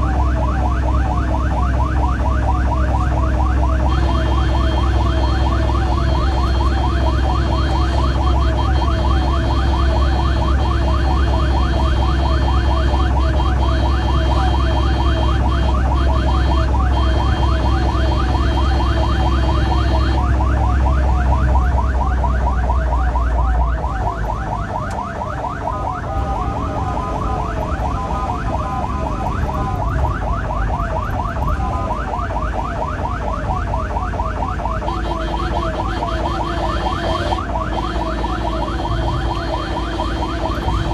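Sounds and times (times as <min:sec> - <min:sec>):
engine and road noise: 0:00.0 - 0:40.9
siren yelping: 0:00.0 - 0:40.9.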